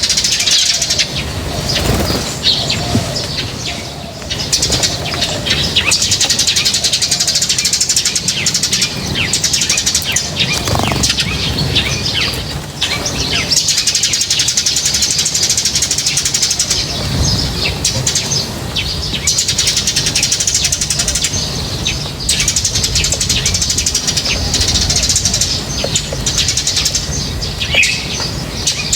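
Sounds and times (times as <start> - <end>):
flock of small birds chirping: 0.0 - 28.9.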